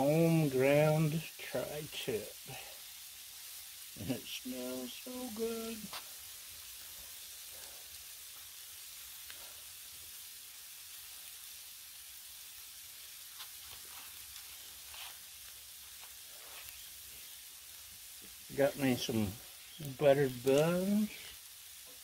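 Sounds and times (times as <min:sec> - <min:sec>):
patties sizzling on griddle: 0:00.0 - 0:22.0.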